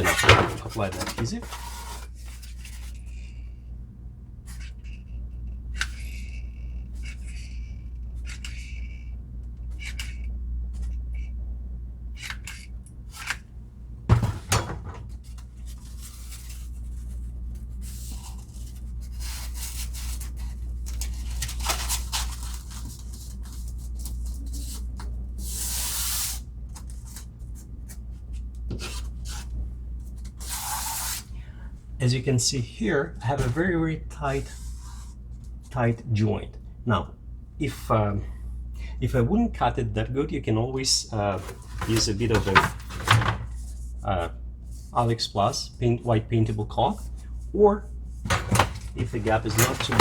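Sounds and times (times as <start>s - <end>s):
steady low hum: 0.0s - 25.8s, 26.4s - 50.0s.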